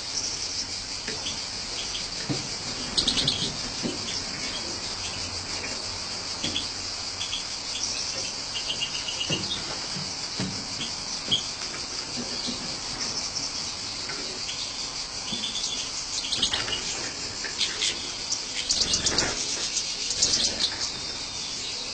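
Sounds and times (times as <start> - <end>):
finches chirping and twittering: 0.0 - 21.9
steady high buzz: 0.0 - 21.9.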